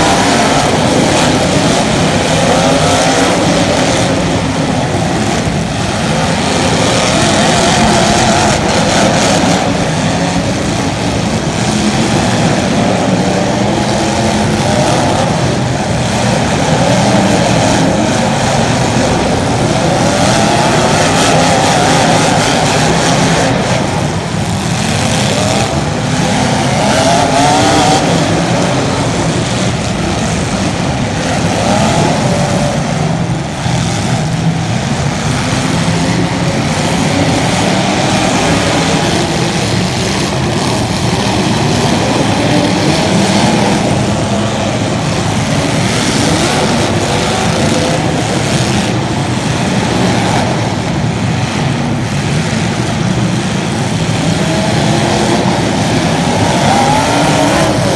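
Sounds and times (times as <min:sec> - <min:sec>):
small racing engines revving: 0:00.0 - 0:57.9.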